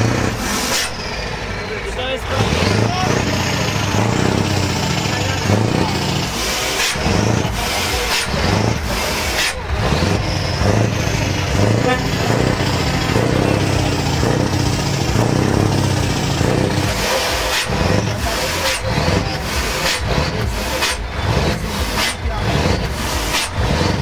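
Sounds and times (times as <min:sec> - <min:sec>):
people talking: 0:00.0 - 0:24.0
truck engine running: 0:00.0 - 0:24.0.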